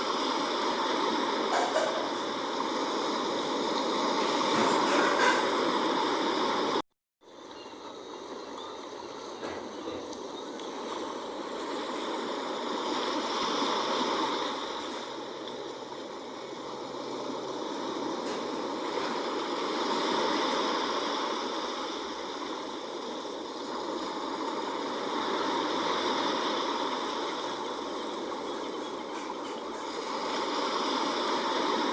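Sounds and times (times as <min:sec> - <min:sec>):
sea waves washing onto shore: 0:00.0 - 0:31.9.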